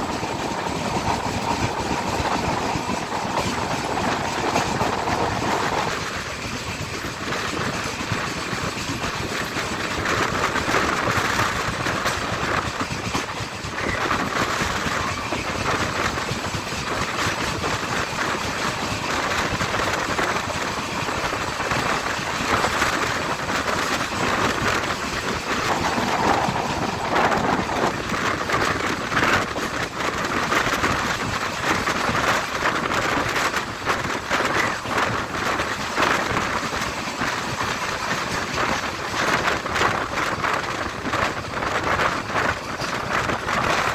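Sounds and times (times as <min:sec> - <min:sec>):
trains passing with wheel clatter: 0:00.0 - 0:43.9.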